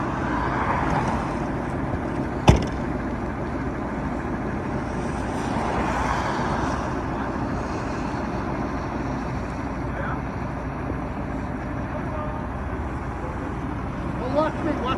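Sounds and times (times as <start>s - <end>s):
vehicle engine rumbling: 0.0s - 14.9s.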